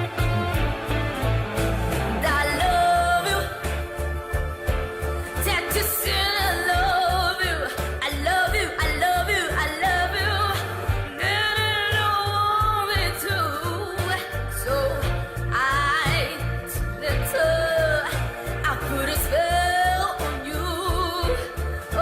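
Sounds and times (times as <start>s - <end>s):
band with pulsing bass line: 0.0s - 22.0s
woman singing bluesy vocal: 2.2s - 4.0s, 5.2s - 22.0s.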